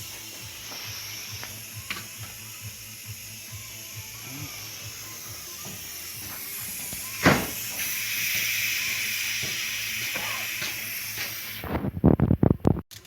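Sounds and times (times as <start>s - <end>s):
compressed air hissing: 0.0s - 12.1s.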